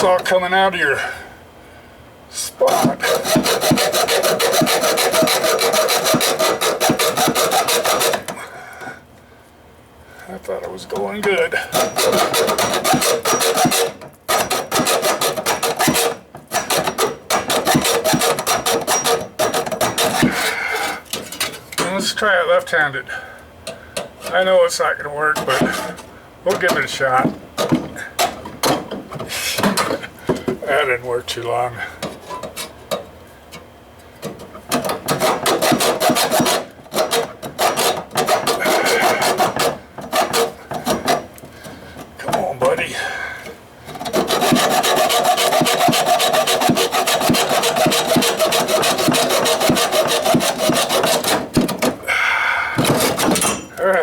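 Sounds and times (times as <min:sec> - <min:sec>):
hand tool rasping copper pipe: 0:02.3 - 0:08.4, 0:10.9 - 0:21.6, 0:25.3 - 0:33.0, 0:34.2 - 0:54.0.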